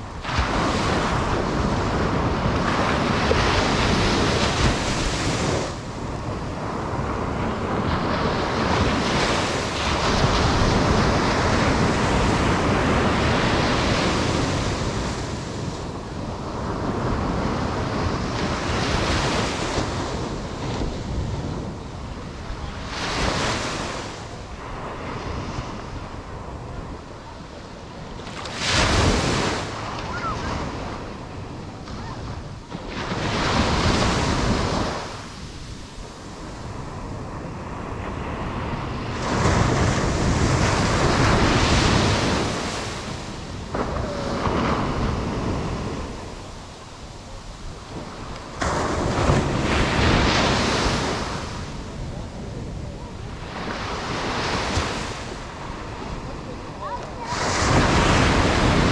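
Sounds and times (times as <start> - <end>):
surf breaking on beach: 0.0 - 58.9
wind rumbling on microphone: 0.0 - 58.9.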